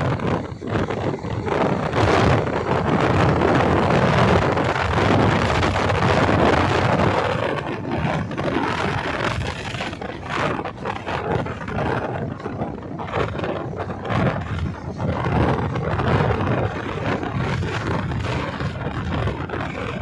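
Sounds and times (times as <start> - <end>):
deep rumble: 0.0 - 20.0
wind buffeting microphone: 0.0 - 20.0.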